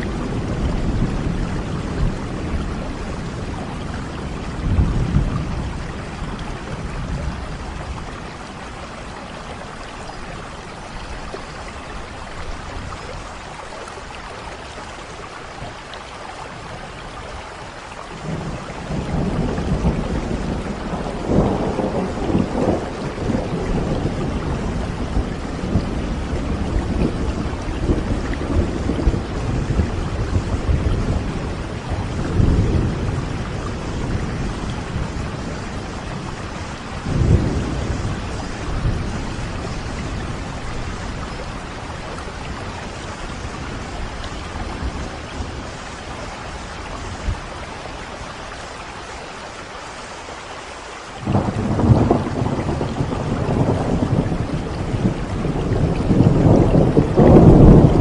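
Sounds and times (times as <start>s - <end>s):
rolling thunder: 0.0s - 10.8s, 18.2s - 47.6s, 51.2s - 58.0s
steady rain: 0.0s - 58.0s.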